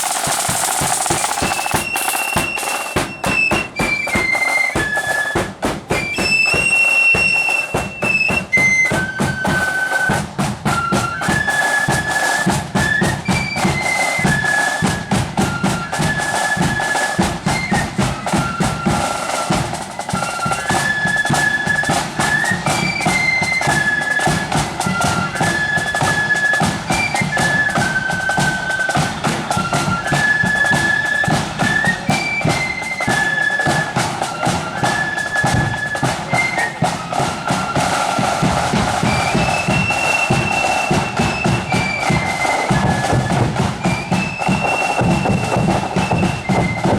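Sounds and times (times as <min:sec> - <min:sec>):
flutes playing melody: 0:00.0 - 0:46.9
snare and bass drumming: 0:00.0 - 0:46.9.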